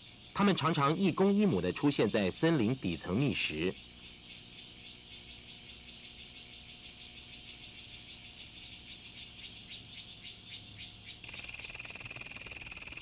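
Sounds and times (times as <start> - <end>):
high rapid pulsing animal chirp: 0.0 - 13.0.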